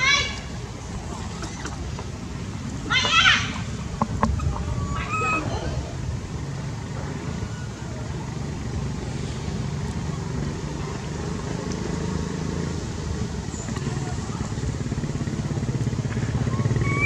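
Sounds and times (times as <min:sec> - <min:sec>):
small engine rumbling: 0:00.0 - 0:17.0.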